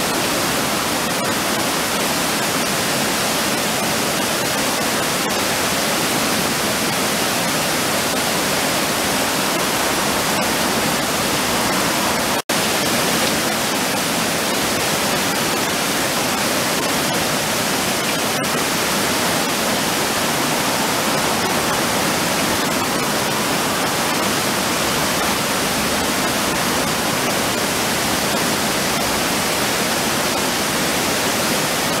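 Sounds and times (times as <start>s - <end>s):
water rushing over a weir: 0.0s - 32.0s.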